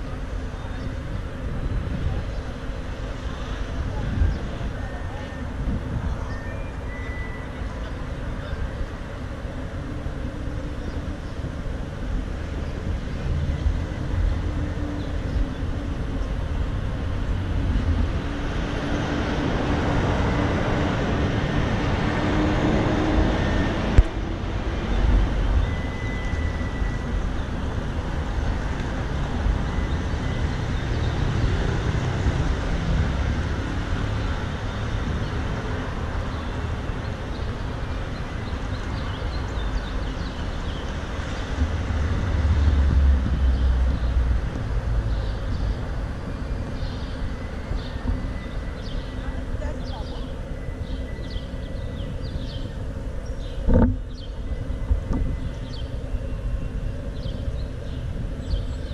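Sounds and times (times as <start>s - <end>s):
street traffic rumble: 0.0s - 58.9s.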